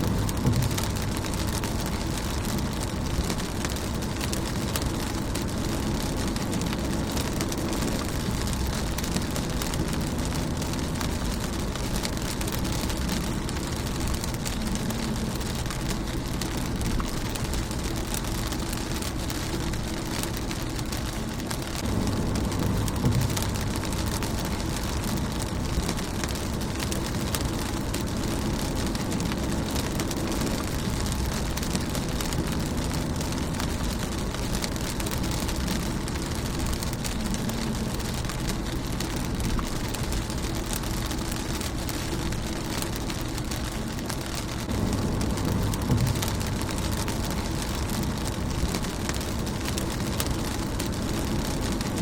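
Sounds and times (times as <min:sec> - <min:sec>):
low rumble: 0:00.0 - 0:52.0
rain on windshield: 0:00.0 - 0:52.0.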